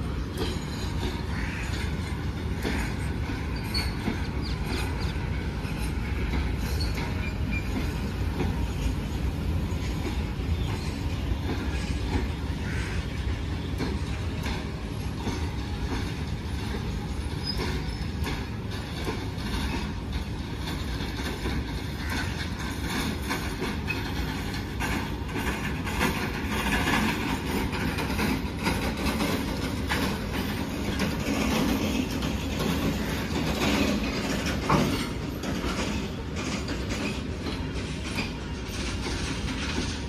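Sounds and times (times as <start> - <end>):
train rumble: 0.0 - 40.0
wheels clacking over rail joints: 0.0 - 40.0.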